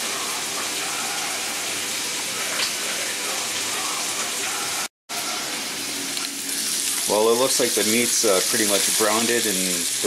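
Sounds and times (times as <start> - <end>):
meat sizzling in skillet: 0.0 - 10.0.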